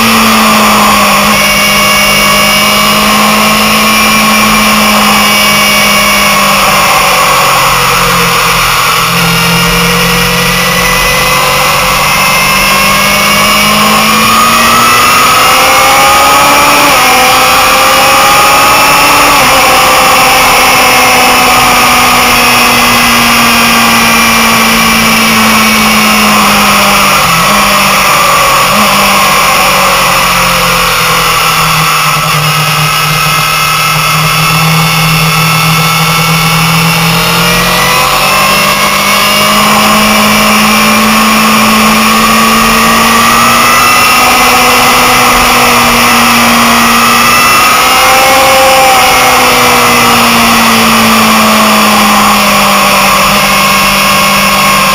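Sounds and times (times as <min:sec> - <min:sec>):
motorcycle engine at speed: 0:00.0 - 0:54.9.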